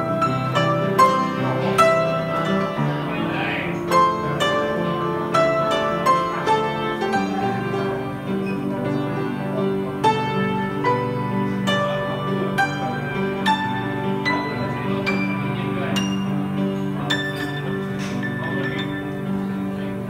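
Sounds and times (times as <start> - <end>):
slow solo piano melody: 0.0 - 20.0.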